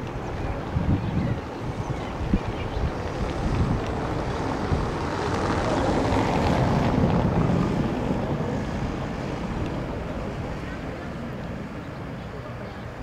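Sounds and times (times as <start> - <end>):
harbour water washing: 0.0 - 13.0
wind buffeting microphone: 0.0 - 13.0.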